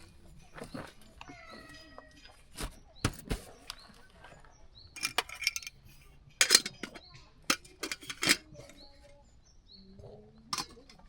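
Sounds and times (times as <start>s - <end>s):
camp gear clinking and clattering: 0.0s - 9.2s, 10.0s - 11.0s
small birds chirping faintly: 0.0s - 11.0s.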